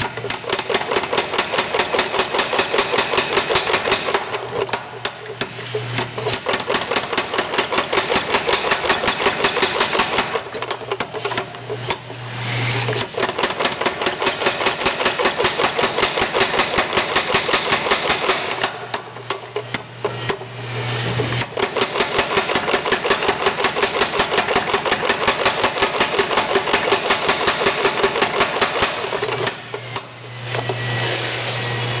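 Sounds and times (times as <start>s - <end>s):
power hammer pounding: 0.0s - 12.0s, 13.0s - 20.4s, 21.1s - 30.6s.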